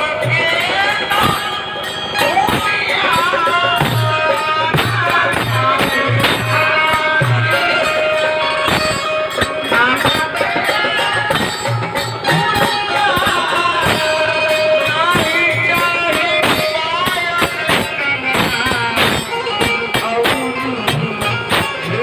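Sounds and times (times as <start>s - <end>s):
drum strokes: 0.0s - 22.0s
jingling percussion: 0.0s - 22.0s.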